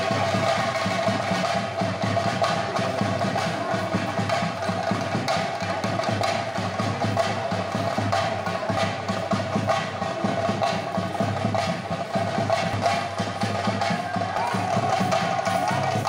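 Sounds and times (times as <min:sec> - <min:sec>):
drums in fast roll: 0:00.0 - 0:16.0.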